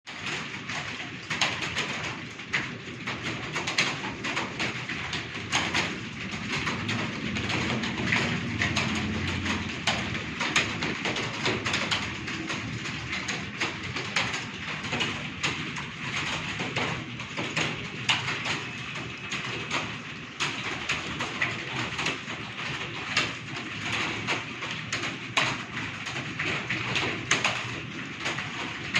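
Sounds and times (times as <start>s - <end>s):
computer keyboard typing: 3.0s - 28.7s.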